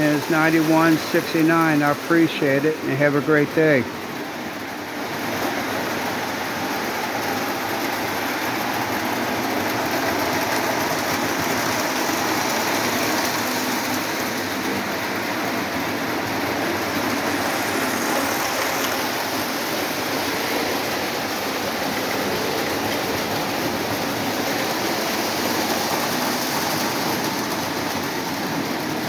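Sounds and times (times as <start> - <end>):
toy trains whirring on track: 0.0 - 29.0.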